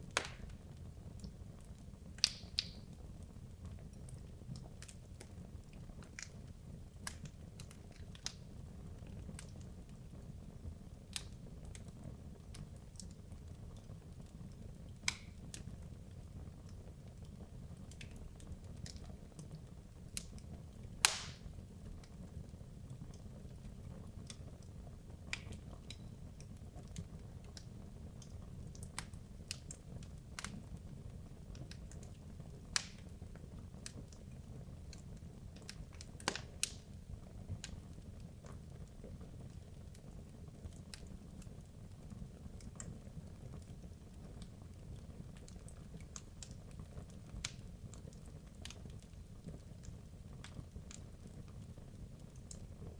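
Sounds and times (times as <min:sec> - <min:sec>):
fire crackling and popping: 0:00.0 - 0:52.9
low rumble of fire: 0:00.0 - 0:52.9.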